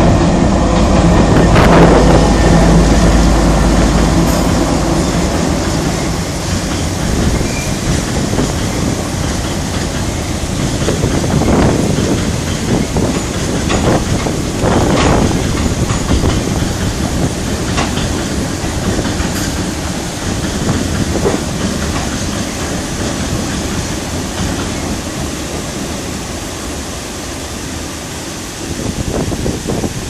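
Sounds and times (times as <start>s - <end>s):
train wagons rumbling over bridge: 0.0s - 30.0s
wheels clacking: 1.0s - 25.9s.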